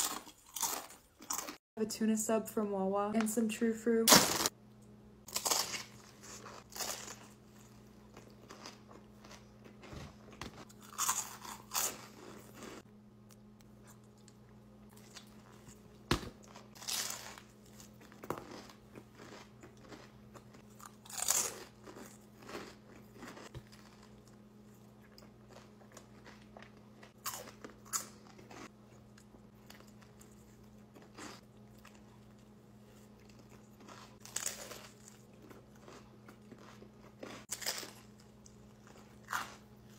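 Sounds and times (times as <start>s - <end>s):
crunchy bites: 0.0s - 1.6s, 5.3s - 12.8s, 14.9s - 24.4s, 25.0s - 32.3s, 33.2s - 39.9s
faint steady hum: 0.0s - 39.9s
chewing: 5.3s - 12.8s, 13.8s - 39.9s.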